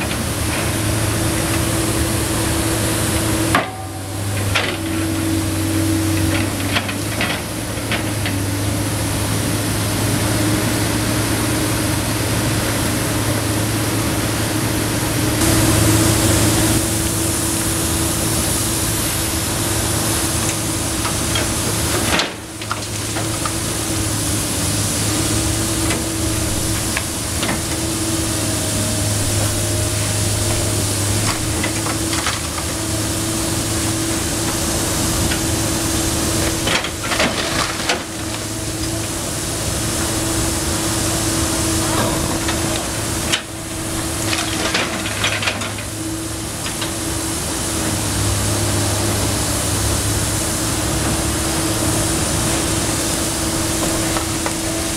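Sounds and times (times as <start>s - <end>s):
water hose spraying: 0.0s - 14.6s, 15.3s - 54.9s
excavator diesel engine running: 0.0s - 54.9s.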